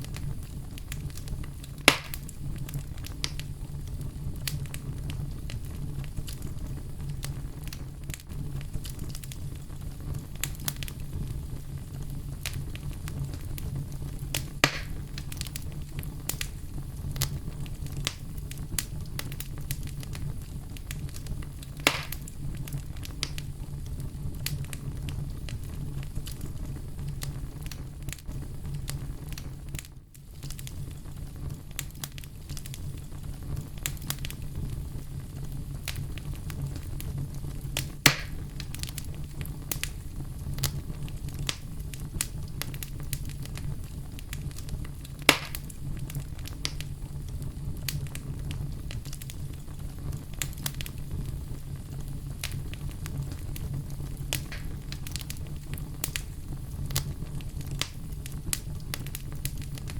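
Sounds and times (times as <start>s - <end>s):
bonfire rumble: 0.0s - 59.9s
burning wood popping: 0.0s - 59.9s
fire crackling: 0.0s - 59.9s.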